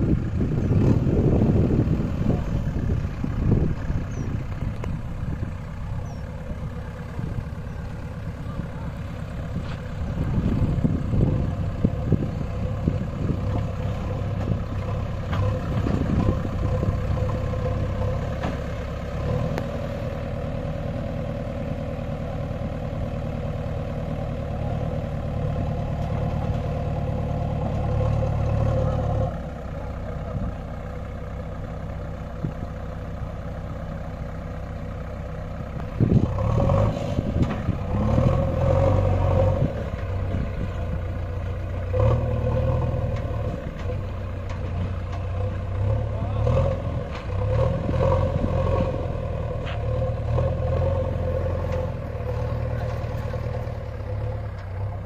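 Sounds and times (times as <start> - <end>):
diesel engine running and revving: 0.0 - 55.0
loader bucket pushing earth: 0.0 - 55.0.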